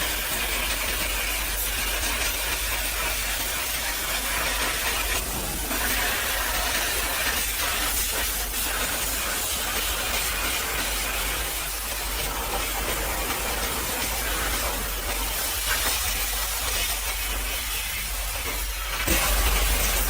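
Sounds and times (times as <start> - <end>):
pressure washer spray hissing: 0.1 - 20.0.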